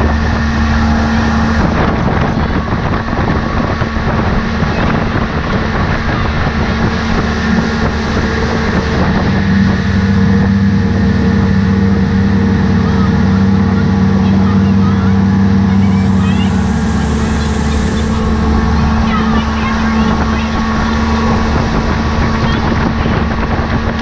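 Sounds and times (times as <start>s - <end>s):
boat wake rushing: 0.0s - 24.0s
outboard motor running: 0.0s - 24.0s
wind buffeting microphone: 0.0s - 24.0s.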